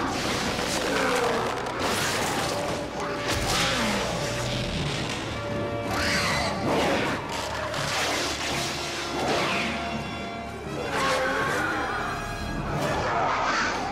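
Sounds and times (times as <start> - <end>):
film score music: 0.0 - 13.9.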